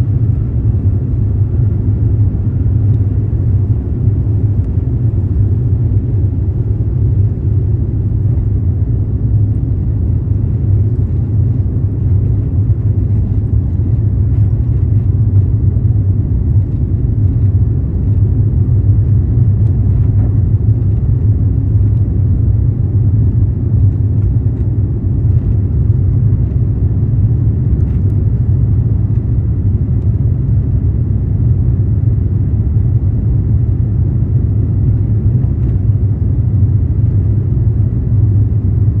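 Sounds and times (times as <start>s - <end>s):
airliner engines rumbling: 0.0s - 39.0s.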